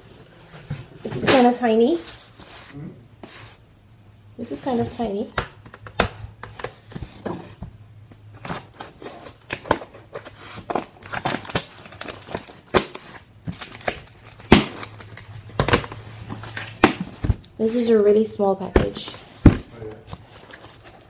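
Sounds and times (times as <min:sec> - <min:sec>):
cardboard rustling and scraping: 0:00.0 - 0:03.6, 0:06.4 - 0:14.2, 0:14.8 - 0:21.0.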